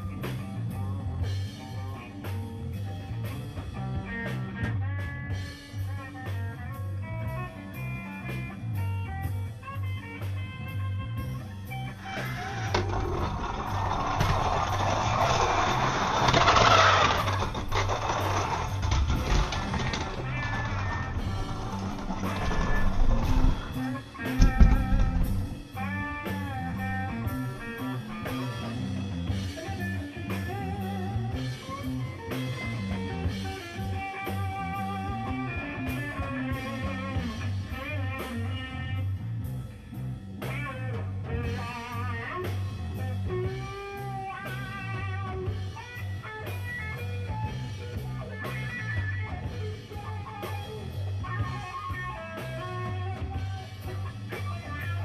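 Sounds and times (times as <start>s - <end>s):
guitar bending melodic lines: 0.0s - 16.4s, 17.1s - 55.0s.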